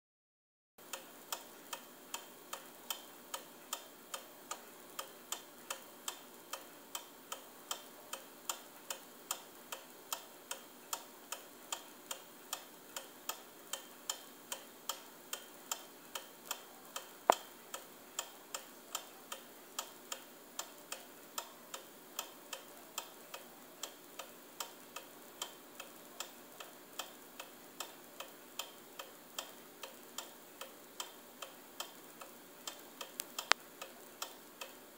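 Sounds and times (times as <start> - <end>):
pendulum clock ticking: 0.8 - 34.9.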